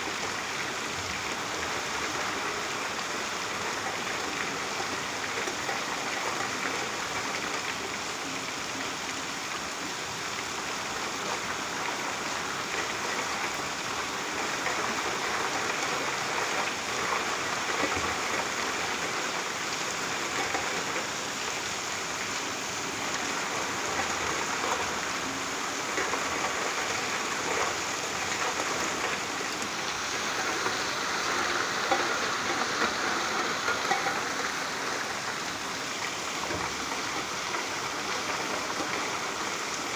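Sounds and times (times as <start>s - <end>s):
steady rain falling: 0.0s - 39.9s
raindrop ticks: 1.0s - 9.2s, 10.3s - 39.9s.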